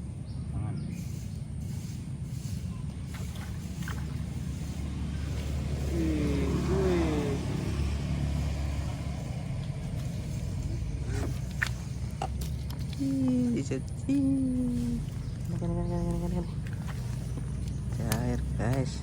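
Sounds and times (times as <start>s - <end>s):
vehicle passing by: 1.0s - 19.0s.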